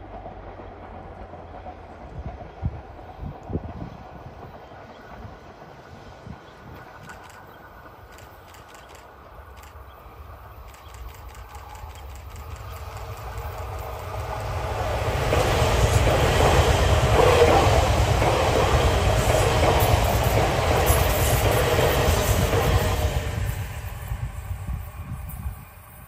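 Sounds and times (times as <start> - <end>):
train passing by: 0.0 - 26.0.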